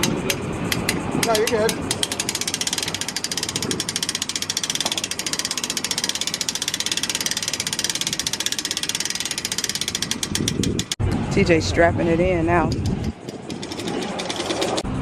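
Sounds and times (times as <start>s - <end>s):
ratchet clicking rapidly: 0.0s - 11.0s, 12.3s - 14.9s.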